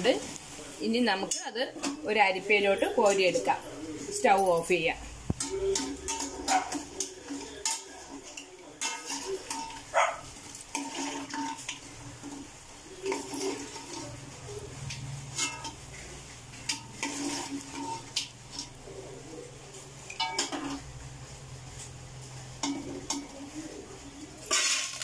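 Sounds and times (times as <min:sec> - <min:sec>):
utensils clinking against metal pot: 0:01.1 - 0:21.0, 0:22.6 - 0:25.0.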